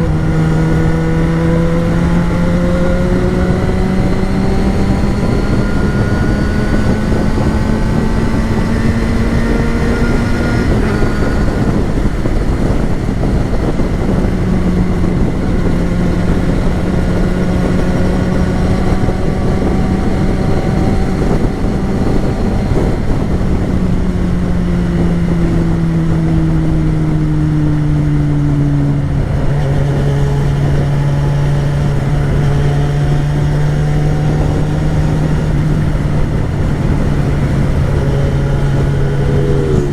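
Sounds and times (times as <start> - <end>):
motorcycle engine: 0.0 - 39.9
road and wind noise: 0.0 - 39.9.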